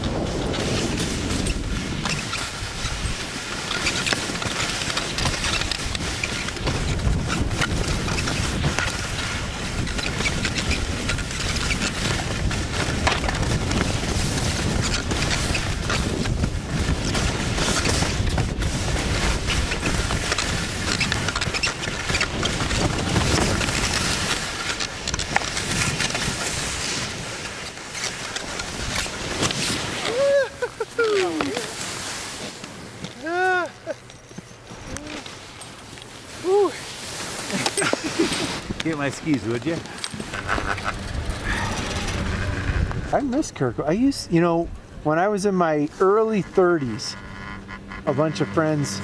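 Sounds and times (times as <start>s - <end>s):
wind rushing over microphone: 0.0s - 32.6s, 38.4s - 48.0s
skis scraping on snow: 0.0s - 49.0s.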